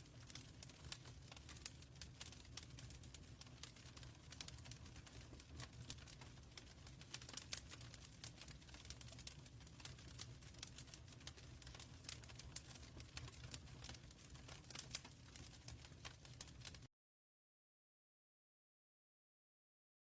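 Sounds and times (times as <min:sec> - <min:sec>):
low steady fire rumble: 0:00.0 - 0:16.9
wood fire crackling and popping: 0:00.0 - 0:16.9.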